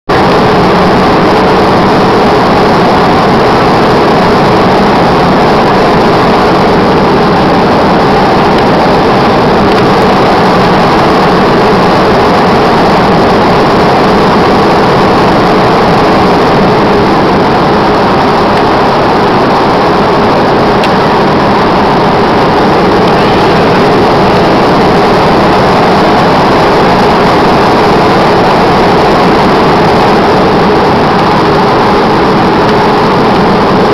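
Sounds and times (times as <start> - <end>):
airplane engine drone: 0.0 - 33.9
rushing air in cabin: 0.1 - 33.9.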